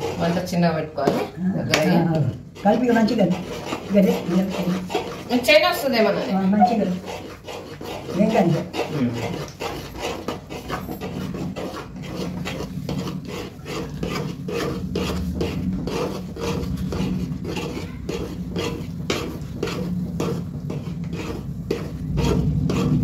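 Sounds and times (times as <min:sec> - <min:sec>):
spatula scraping pan: 0:00.0 - 0:23.0
steady low hum: 0:02.2 - 0:23.0.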